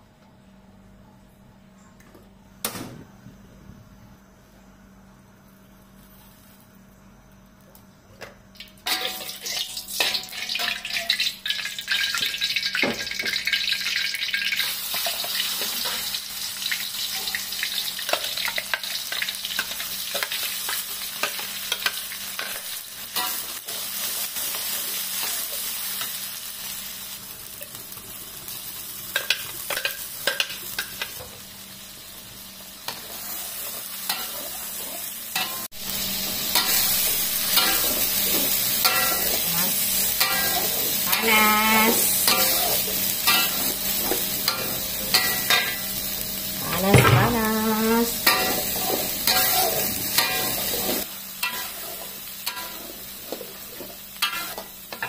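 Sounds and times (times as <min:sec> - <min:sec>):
paste sizzling in a wok: 0:08.8 - 0:55.0.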